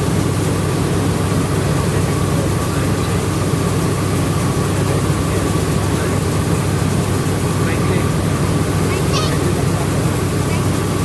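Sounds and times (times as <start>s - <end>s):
milling machinery drone: 0.0s - 11.0s.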